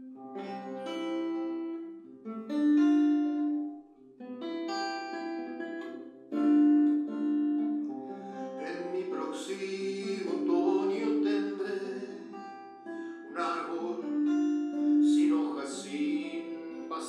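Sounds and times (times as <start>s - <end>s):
classical guitar chords: 0.0s - 17.0s.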